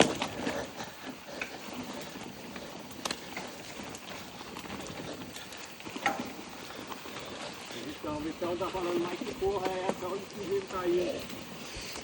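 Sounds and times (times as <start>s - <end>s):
bike clicks and knocks: 0.0s - 12.0s
bike tyres on dirt trail: 0.0s - 12.0s.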